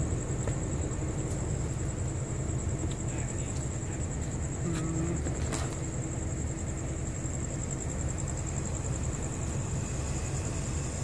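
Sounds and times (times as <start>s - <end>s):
standing train low rumble: 0.0s - 11.0s
thin high whine: 0.0s - 11.0s.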